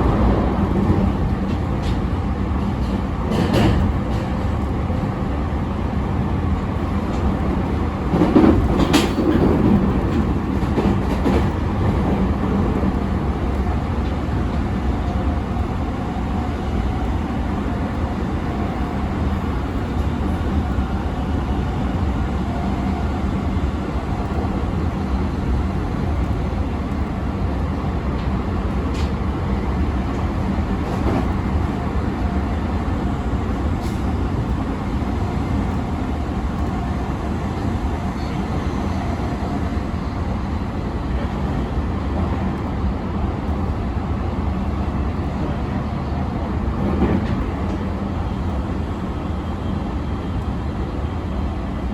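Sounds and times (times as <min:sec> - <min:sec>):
train clatter: 0:00.0 - 0:51.9
train wheels rumbling on rail: 0:00.0 - 0:51.9.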